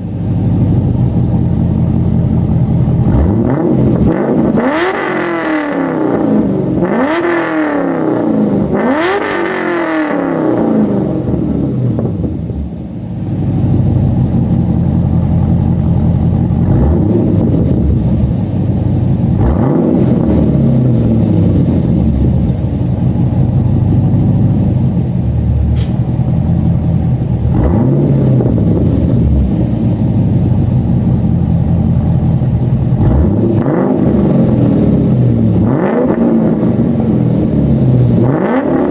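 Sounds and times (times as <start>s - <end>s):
car engine idling: 0.0s - 9.1s, 9.7s - 38.9s
car engine revving: 0.0s - 38.9s.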